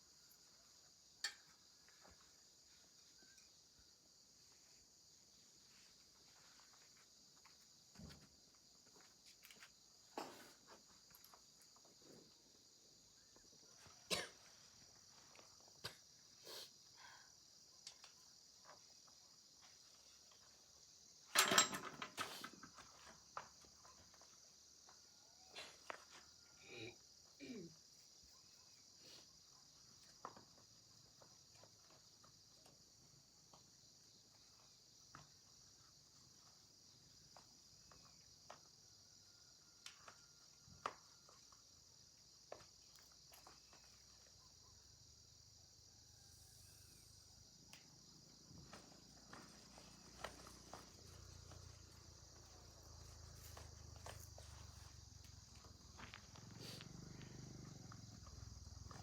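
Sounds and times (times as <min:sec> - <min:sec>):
night insects chirring: 0:00.0 - 0:59.0.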